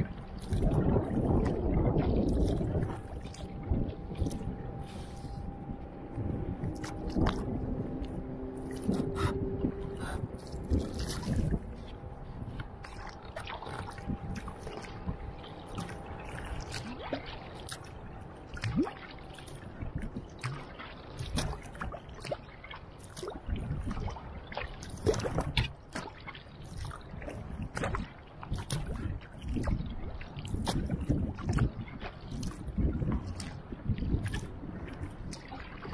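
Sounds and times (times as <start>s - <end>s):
paddle splashing water: 0.0s - 35.9s
water gurgling along hull: 0.0s - 35.9s.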